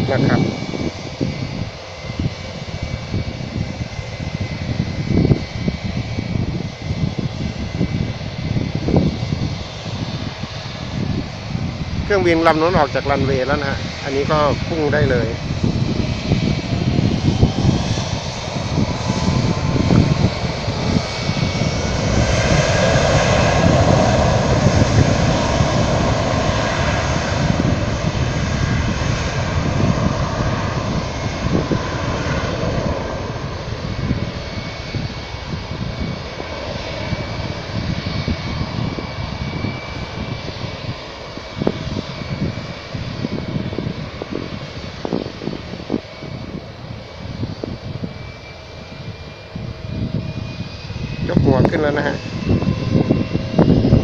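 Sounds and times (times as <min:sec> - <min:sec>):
jet engines roaring at takeoff: 0:00.0 - 0:54.0.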